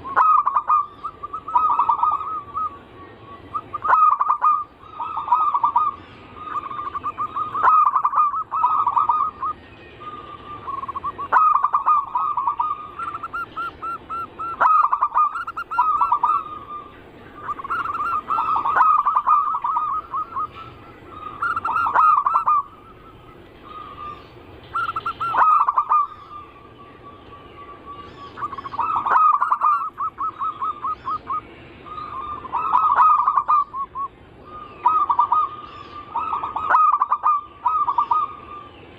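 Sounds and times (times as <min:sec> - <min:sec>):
doves cooing: 0:00.0 - 0:38.9
other birds calling: 0:00.0 - 0:38.9.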